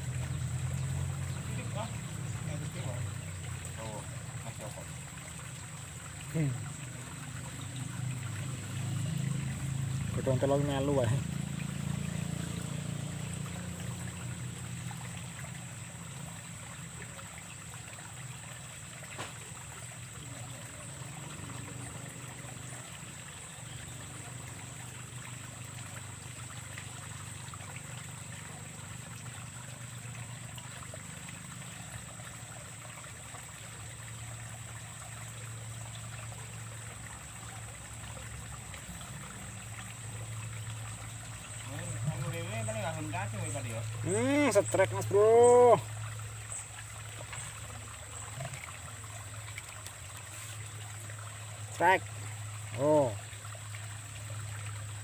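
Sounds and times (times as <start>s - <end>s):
trickle of flowing water: 0.0s - 55.0s.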